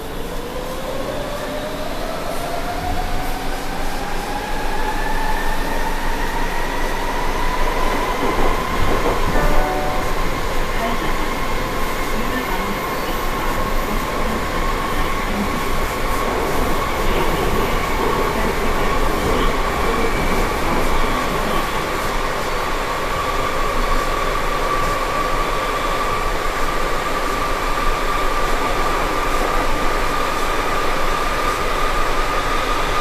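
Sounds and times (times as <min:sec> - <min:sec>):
train interior rumble and rattle: 0:00.0 - 0:33.0.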